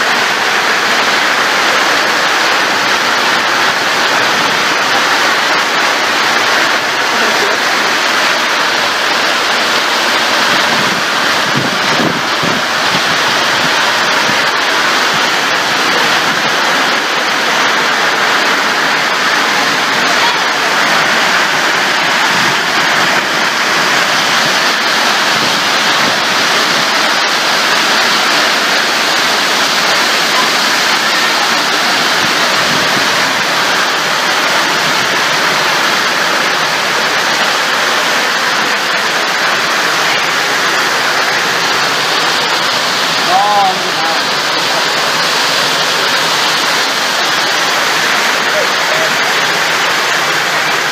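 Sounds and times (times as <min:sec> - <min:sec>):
heavy rain and hail: 0:00.0 - 0:50.9
water pouring off roof edge: 0:00.0 - 0:50.9.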